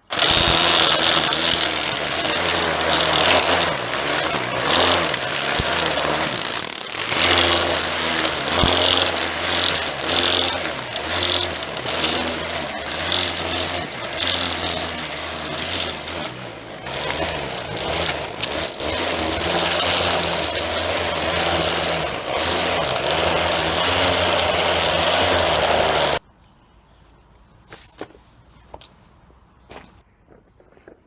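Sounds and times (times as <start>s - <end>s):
strimmer motor surging: 0.0s - 26.2s.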